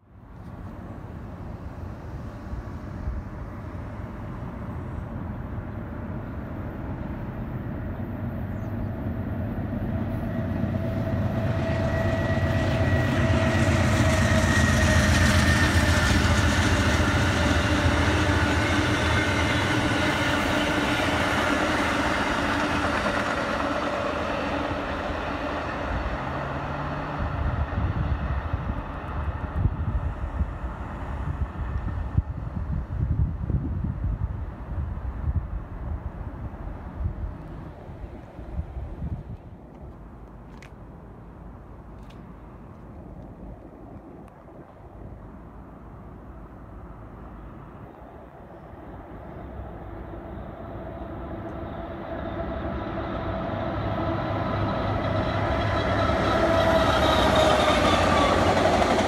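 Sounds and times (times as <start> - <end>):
train passing rumble: 0.0 - 59.0.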